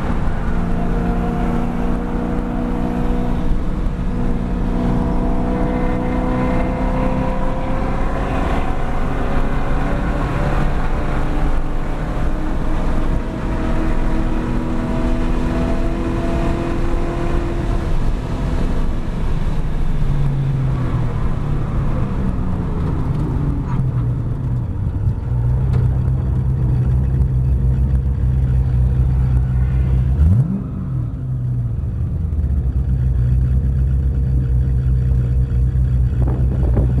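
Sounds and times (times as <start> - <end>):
car engine from inside cabin: 0.0 - 37.0
wind and tyre noise: 0.0 - 37.0.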